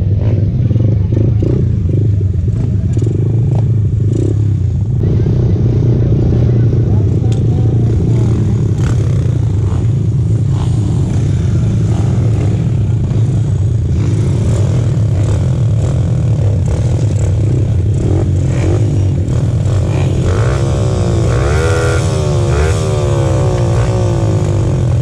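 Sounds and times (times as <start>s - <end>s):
dirt bike engines idling: 0.0s - 25.0s
engines revving: 0.0s - 25.0s.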